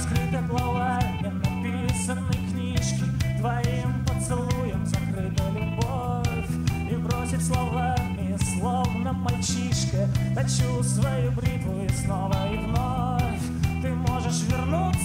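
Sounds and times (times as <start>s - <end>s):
bass guitar: 0.0s - 15.0s
drums with cymbal hits: 0.0s - 15.0s
electric guitar: 0.0s - 15.0s
keyboards: 0.0s - 15.0s.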